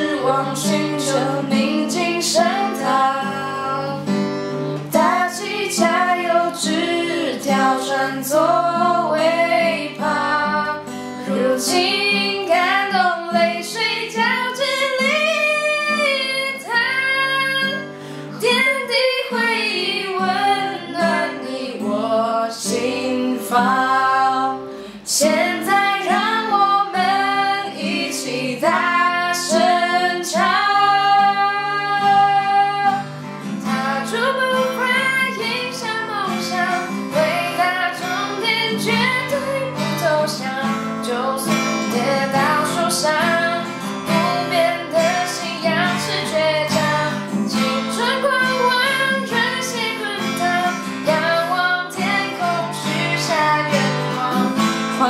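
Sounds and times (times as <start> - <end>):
acoustic guitar strumming: 0.0 - 55.0
two people singing pop song: 0.0 - 55.0.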